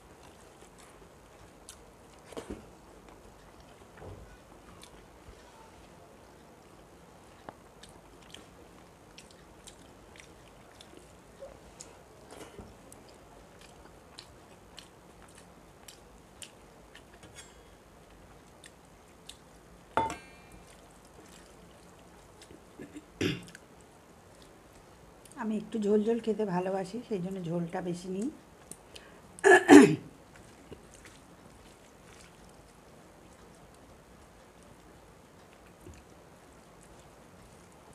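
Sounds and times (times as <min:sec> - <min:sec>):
faint chewing: 0:00.0 - 0:25.8, 0:28.0 - 0:29.4, 0:30.1 - 0:37.9.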